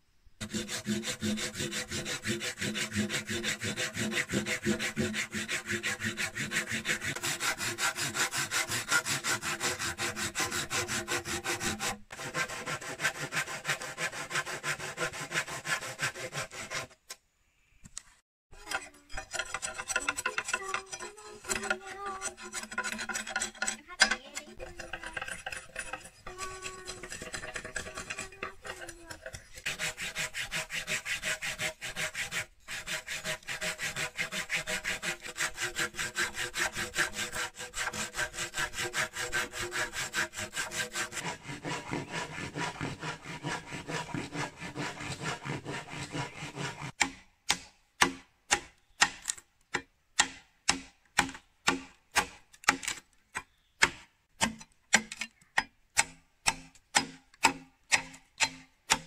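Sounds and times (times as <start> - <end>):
blade working against wood: 0.4 - 17.2, 18.5 - 49.4, 56.0 - 59.0.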